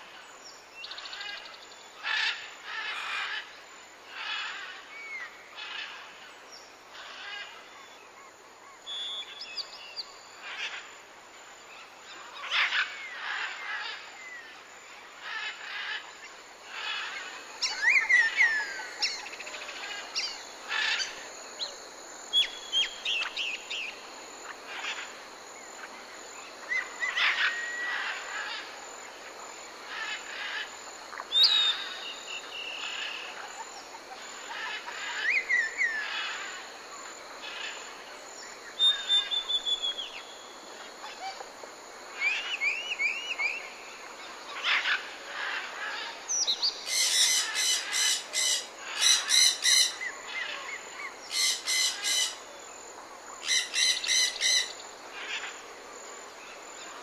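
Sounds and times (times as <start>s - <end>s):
steady high hiss: 0.0s - 57.0s
forest birds calling: 4.1s - 10.9s, 11.7s - 55.7s.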